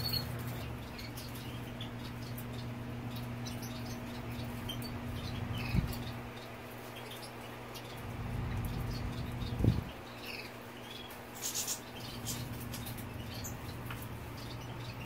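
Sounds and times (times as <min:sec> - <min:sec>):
bird rustling and ticking: 0:00.0 - 0:15.0
steady low hum: 0:00.0 - 0:15.0.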